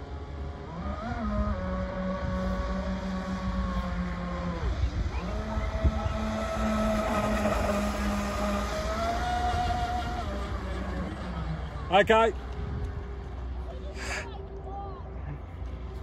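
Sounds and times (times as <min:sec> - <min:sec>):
electric boat motor whining: 0:00.0 - 0:14.2.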